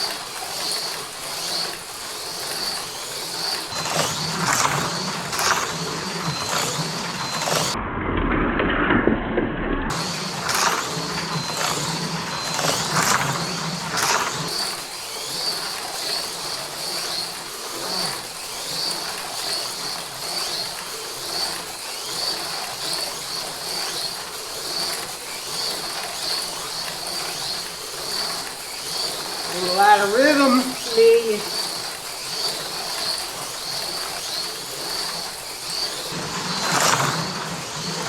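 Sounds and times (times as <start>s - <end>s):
slot car electric motor whine: 0.0s - 7.8s, 9.9s - 38.0s.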